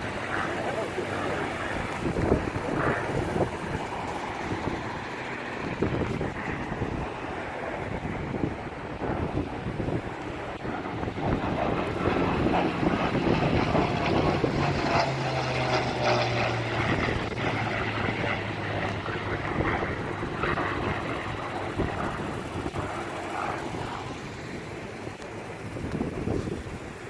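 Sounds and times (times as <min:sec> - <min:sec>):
propeller aircraft flying past: 0:00.0 - 0:27.0
wind buffeting microphone: 0:00.0 - 0:27.0.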